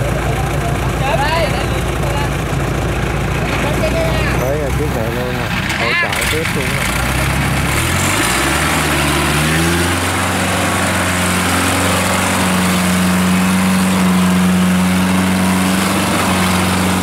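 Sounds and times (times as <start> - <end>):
tracked carrier engine running: 0.0 - 17.0.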